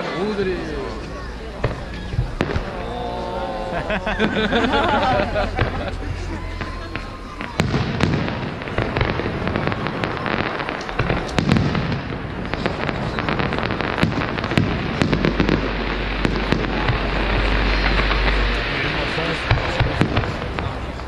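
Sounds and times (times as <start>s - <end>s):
continuous hissing rush: 0.0s - 21.0s
fireworks bangs and crackles: 0.0s - 21.0s
low rumble: 1.1s - 10.2s, 12.1s - 21.0s.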